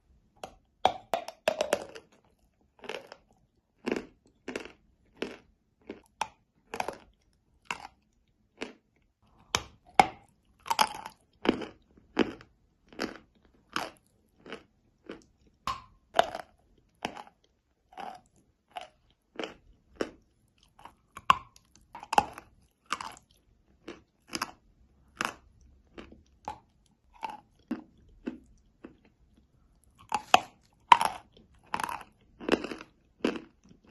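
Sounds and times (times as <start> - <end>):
chalk being bitten and chewed: 0.4 - 33.9.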